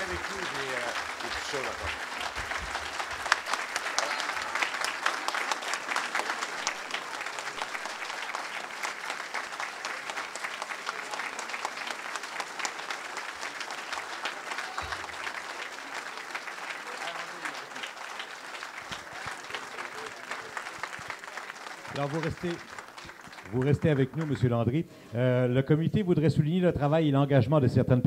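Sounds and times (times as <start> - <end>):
audience applauding: 0.0 - 25.3.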